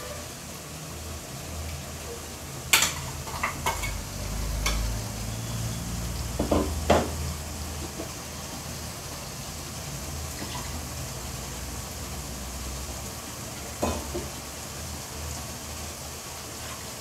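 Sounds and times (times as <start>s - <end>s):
low sizzle from pan: 0.0s - 17.0s.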